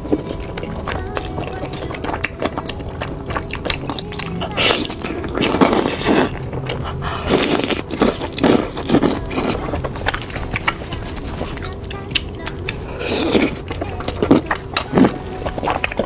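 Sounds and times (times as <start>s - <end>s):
bites and slurps: 0.0s - 16.0s
wet chewing: 0.0s - 16.0s.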